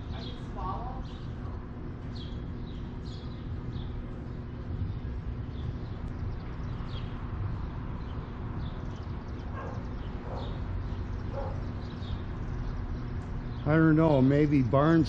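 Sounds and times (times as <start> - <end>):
small birds twittering: 0.0 - 15.0
steady low rumble: 0.0 - 15.0.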